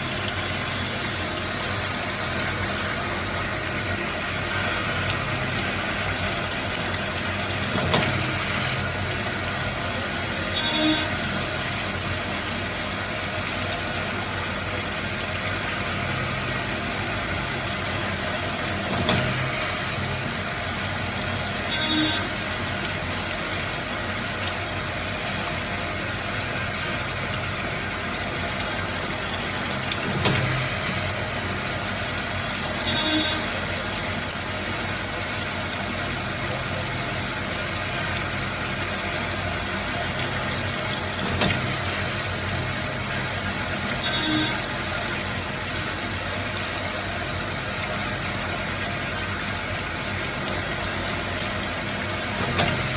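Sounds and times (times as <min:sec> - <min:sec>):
automatic lathe running: 0:00.0 - 0:52.9.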